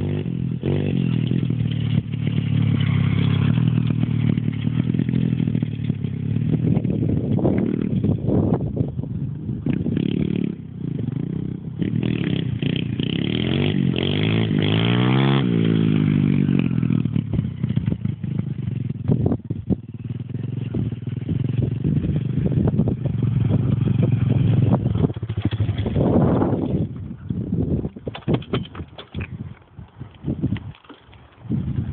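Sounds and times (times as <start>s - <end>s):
motorcycle engine revving: 0.0s - 28.7s.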